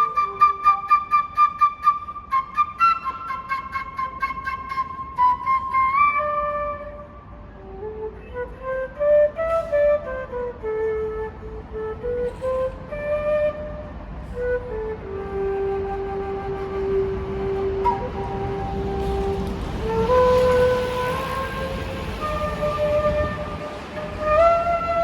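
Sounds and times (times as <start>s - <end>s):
flute melody: 0.0s - 25.0s.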